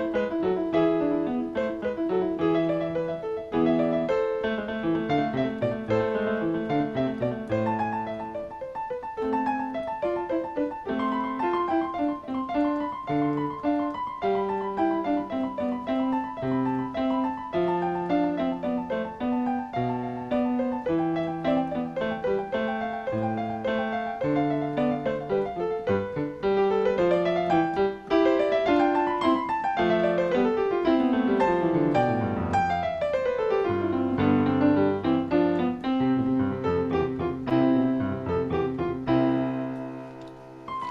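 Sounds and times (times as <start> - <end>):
solo piano playing: 0.0 - 40.9.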